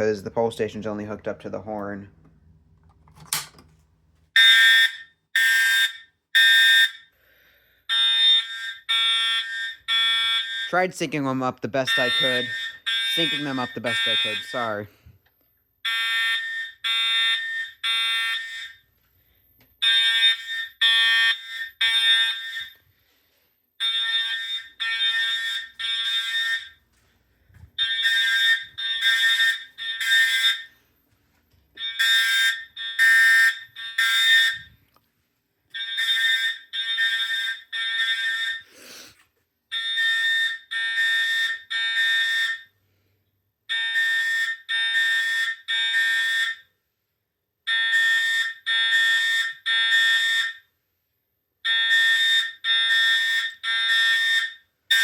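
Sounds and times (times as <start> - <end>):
fire alarm horn blasts: 4.3 - 30.8, 31.7 - 34.8, 35.7 - 39.1, 39.7 - 46.8, 47.6 - 50.7, 51.6 - 55.0.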